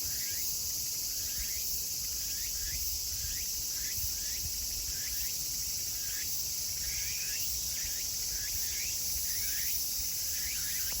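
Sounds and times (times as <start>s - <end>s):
cicadas buzzing and calling: 0.0s - 11.0s.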